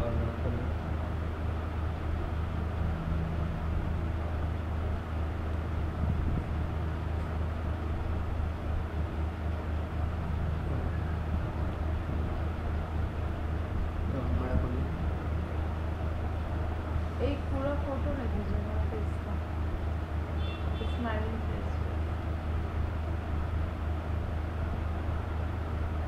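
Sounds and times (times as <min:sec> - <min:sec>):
noisy background: 0:00.0 - 0:26.0
steady low hum: 0:00.0 - 0:26.0.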